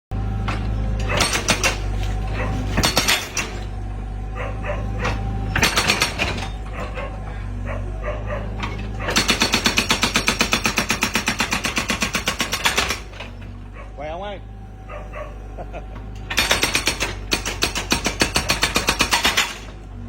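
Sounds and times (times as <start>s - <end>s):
diesel engine running: 0.1s - 20.0s
hydraulic rock breaker hammering: 0.2s - 7.3s, 8.2s - 14.0s, 15.9s - 20.0s.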